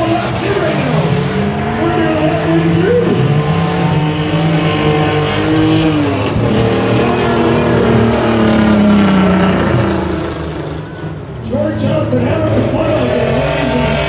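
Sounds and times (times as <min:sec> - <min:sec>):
racing truck engines running hard: 0:00.0 - 0:14.0.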